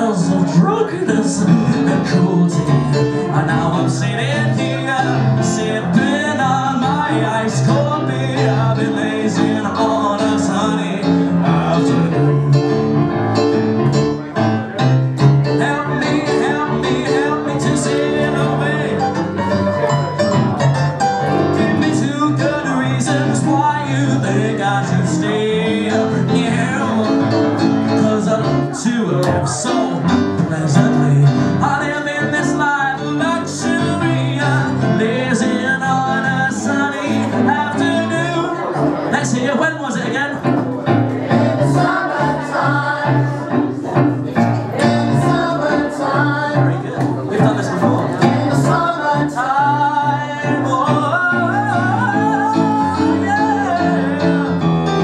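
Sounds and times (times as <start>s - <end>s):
man singing: 0.0s - 40.9s, 41.5s - 55.0s
digital piano playing: 0.0s - 55.0s.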